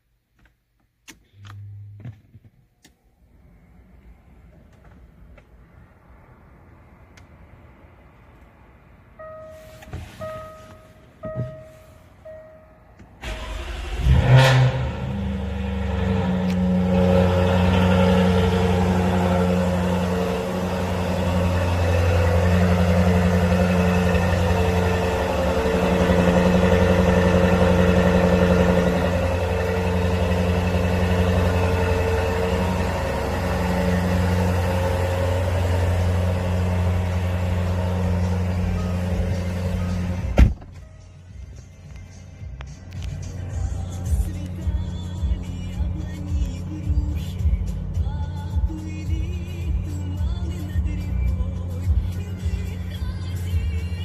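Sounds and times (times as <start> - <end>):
car engine starting and idling: 0.1 - 54.0.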